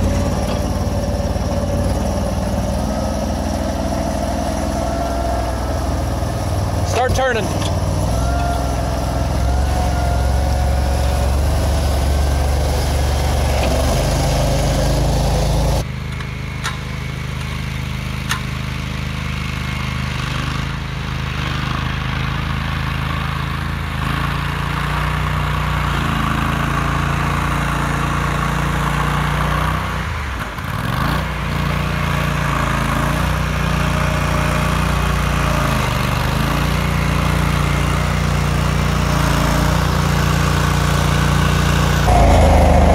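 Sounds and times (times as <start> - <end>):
vehicle engine running in water: 0.0 - 42.9.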